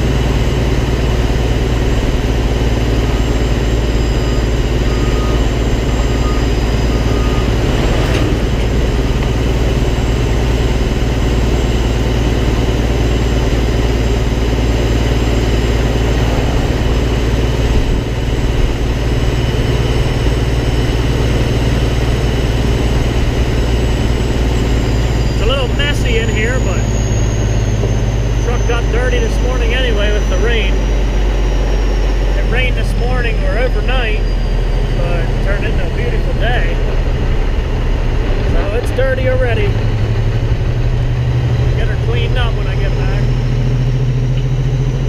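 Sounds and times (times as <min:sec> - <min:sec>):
truck engine and tyres droning: 0:00.0 - 0:45.0.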